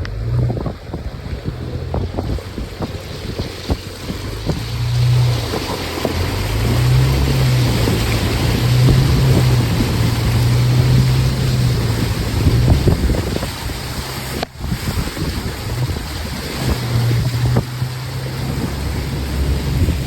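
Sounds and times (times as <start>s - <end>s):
engine running at low revs: 0.0s - 20.0s
wind noise on microphone: 0.0s - 20.0s.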